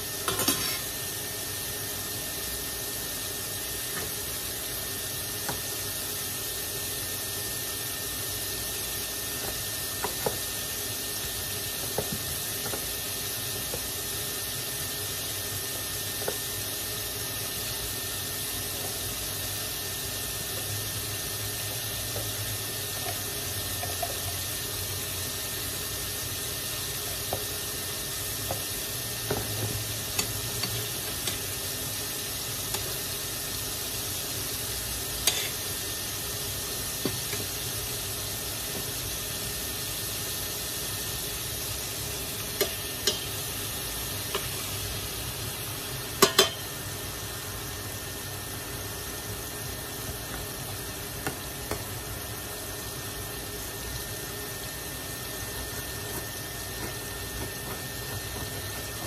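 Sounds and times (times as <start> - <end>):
deep-frying sizzle: 0.0 - 59.0.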